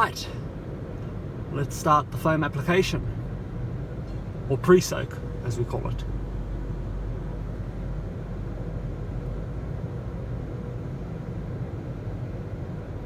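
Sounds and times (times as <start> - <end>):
car wash machinery rumbling: 0.0 - 13.0.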